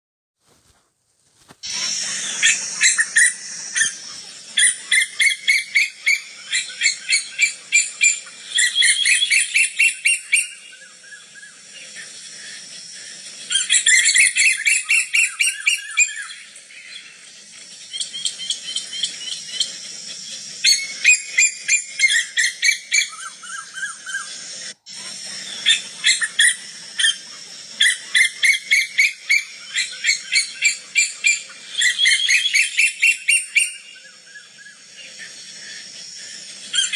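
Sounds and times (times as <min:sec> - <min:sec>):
bird calling sharp repeated notes: 0:01.4 - 0:36.9.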